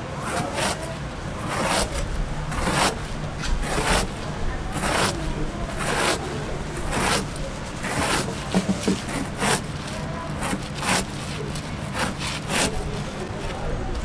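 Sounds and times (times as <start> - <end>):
knife cutting crunchy grain block: 0.2 - 13.6.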